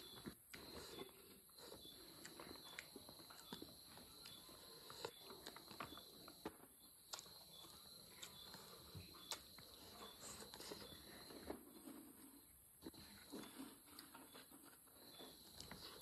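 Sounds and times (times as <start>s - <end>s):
crickets chirring: 0.0s - 16.0s
person chewing food: 0.0s - 16.0s.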